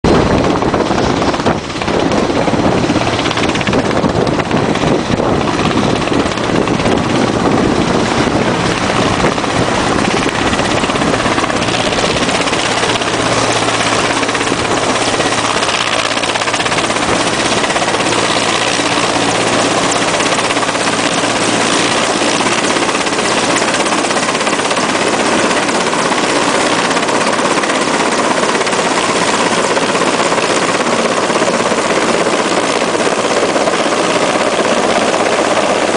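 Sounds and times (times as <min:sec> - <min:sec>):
helicopter engines and rotors: 0:00.0 - 0:35.9.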